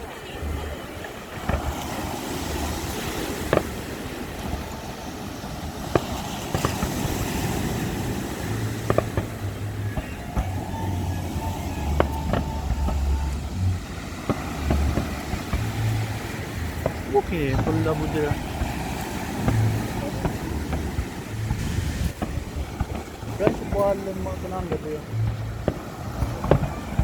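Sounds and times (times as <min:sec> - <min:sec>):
outdoor noise: 0:00.0 - 0:27.0
wind rumbling on microphone: 0:00.0 - 0:27.0.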